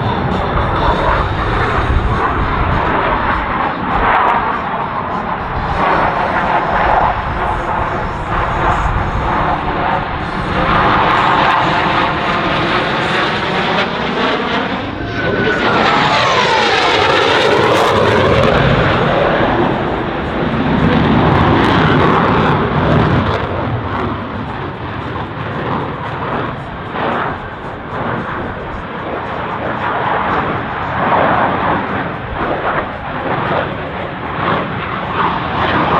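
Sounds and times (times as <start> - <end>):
jet roar: 0.0 - 35.9
jet whine dropping in pitch: 0.0 - 35.9.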